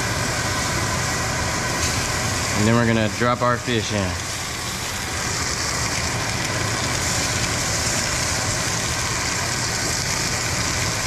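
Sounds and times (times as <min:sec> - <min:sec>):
fish sizzling in a skillet: 0:00.0 - 0:11.0.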